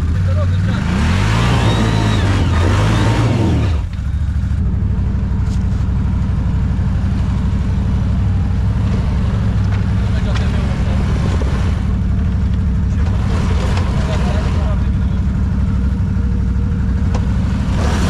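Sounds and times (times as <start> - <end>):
atv engine revving and idling: 0.0 - 18.0.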